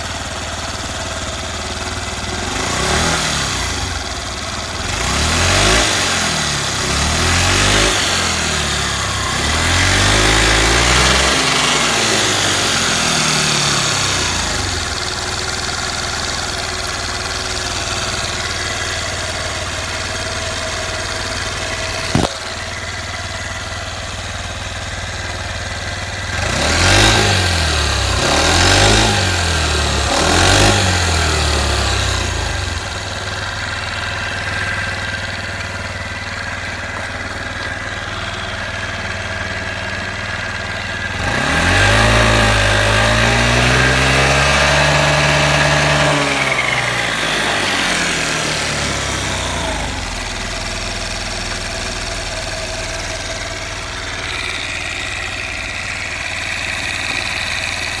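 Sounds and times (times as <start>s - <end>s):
small motorcycle engine revving: 0.0s - 58.0s.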